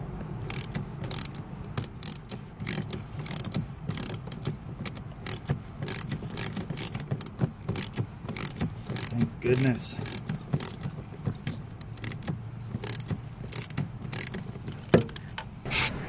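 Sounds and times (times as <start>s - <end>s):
ratchet wrench clicking: 0.4s - 15.4s.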